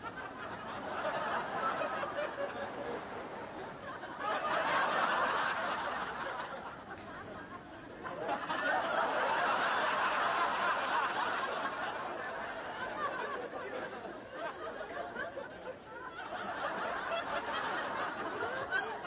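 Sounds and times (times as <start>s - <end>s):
studio audience laughing: 0.0s - 19.0s.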